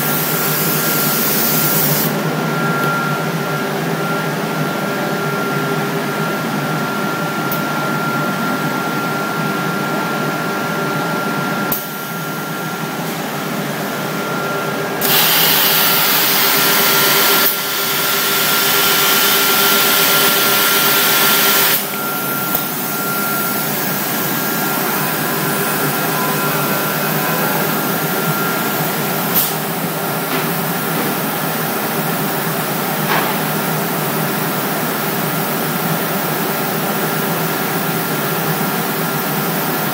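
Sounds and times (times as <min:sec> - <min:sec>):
machine spindle whine: 0:00.0 - 0:39.9.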